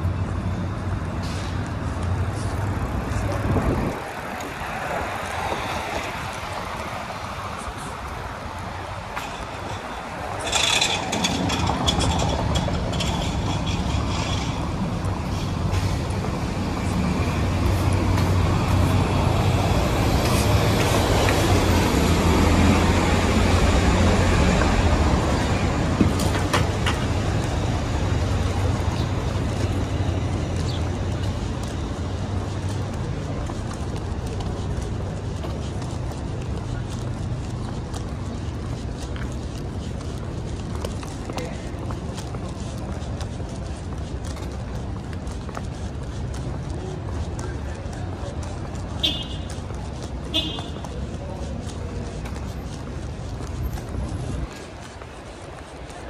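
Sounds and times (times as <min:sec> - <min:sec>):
city traffic hum: 0:00.0 - 0:56.0.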